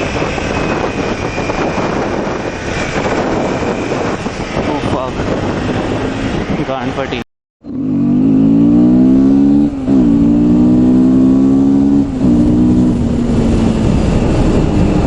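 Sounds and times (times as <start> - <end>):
motorcycle engine accelerating: 0.0 - 6.6, 7.6 - 15.0
steady rushing noise: 0.0 - 7.2, 8.6 - 15.0.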